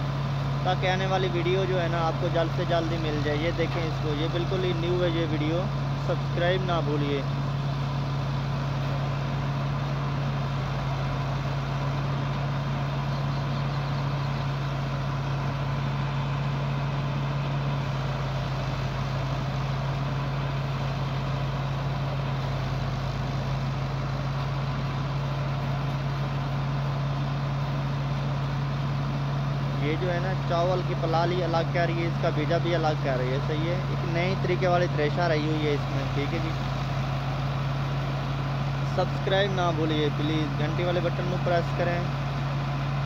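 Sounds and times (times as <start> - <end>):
tractor engine driving thresher: 0.0 - 43.0.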